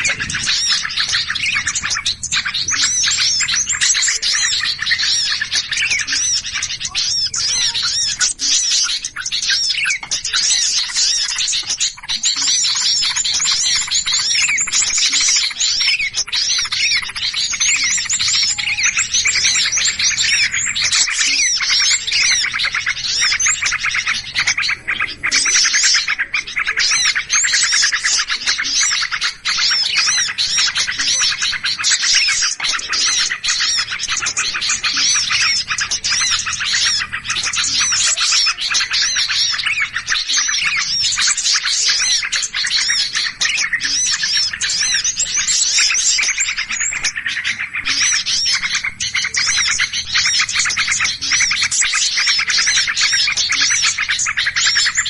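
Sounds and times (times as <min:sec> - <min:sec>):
many small birds chirping: 0:00.0 - 0:55.0.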